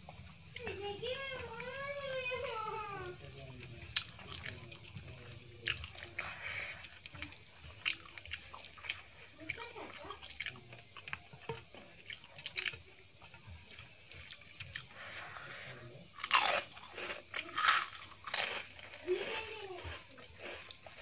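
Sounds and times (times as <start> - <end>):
fingers mixing rice wetly: 0.0 - 21.0
fried papad crunching: 0.0 - 21.0.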